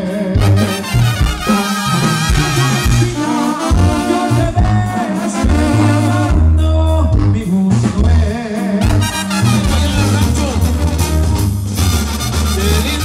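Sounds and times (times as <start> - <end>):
latin music with singing: 0.0 - 13.0.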